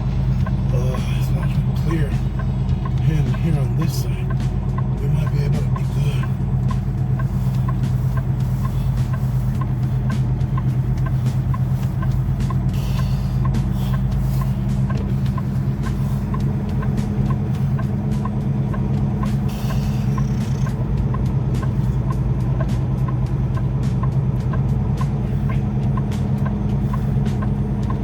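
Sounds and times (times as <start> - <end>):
diesel truck engine running: 0.0 - 28.0
regular high tick: 0.0 - 28.0.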